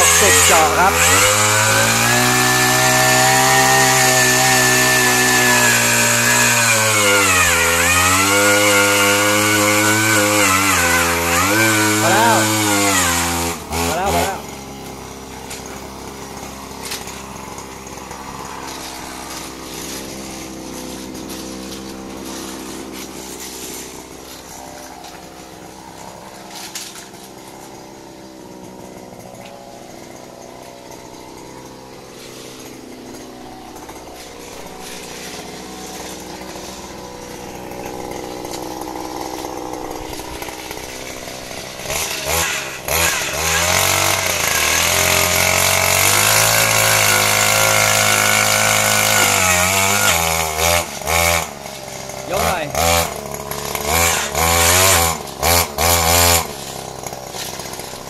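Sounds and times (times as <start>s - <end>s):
earth auger petrol engine running: 0.0s - 58.0s.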